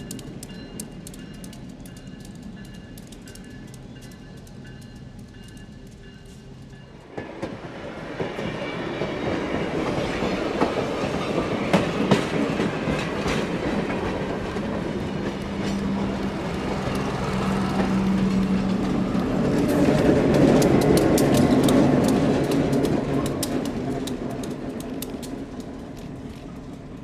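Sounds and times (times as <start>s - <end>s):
train wheels clicking over rail joints: 0.0s - 27.0s.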